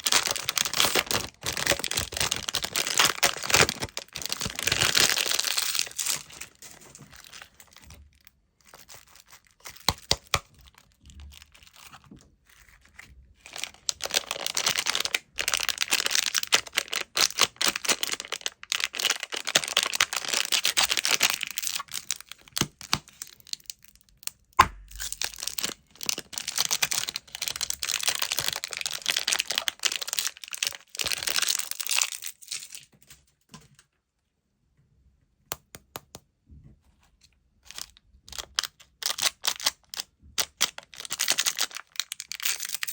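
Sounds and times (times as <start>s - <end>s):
candy wrappers crinkling: 0.0s - 33.0s, 37.6s - 42.9s.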